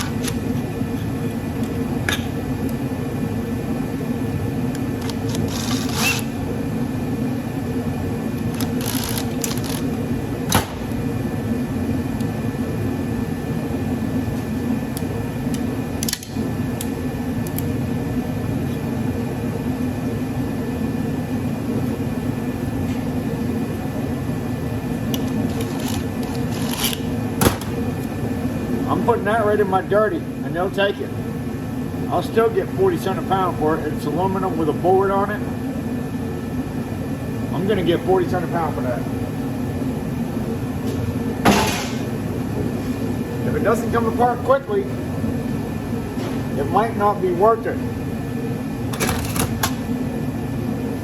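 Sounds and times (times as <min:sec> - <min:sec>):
heater fan humming: 0:00.0 - 0:51.0.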